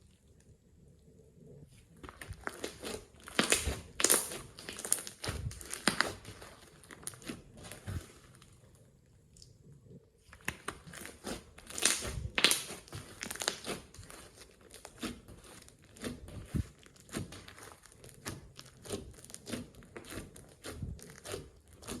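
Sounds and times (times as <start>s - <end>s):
slime squeezed by hand: 2.0s - 8.4s, 10.4s - 22.0s.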